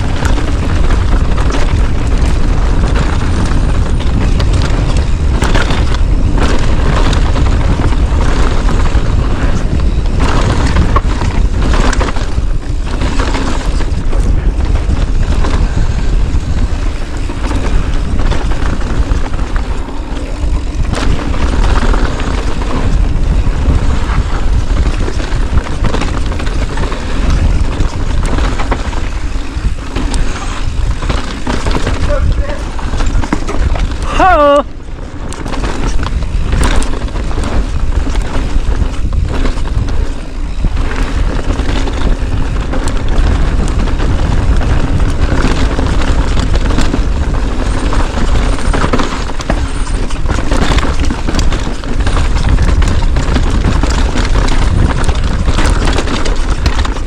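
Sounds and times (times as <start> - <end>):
vehicle rumble: 0.0 - 57.0
wind buffeting microphone: 0.0 - 57.0.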